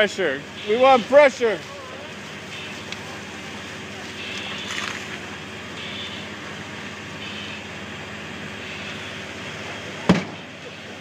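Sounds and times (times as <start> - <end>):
fire engine pump drone: 0.0 - 11.0.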